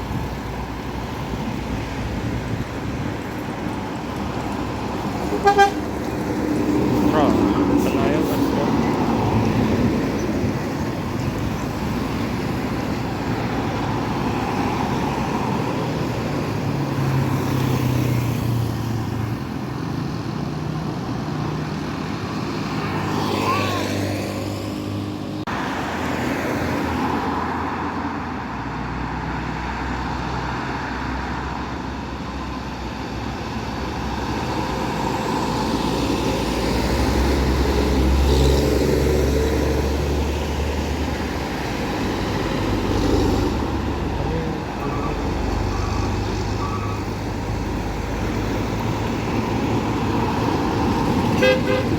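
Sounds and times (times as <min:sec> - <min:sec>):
tyre and road noise: 0:00.0 - 0:51.9.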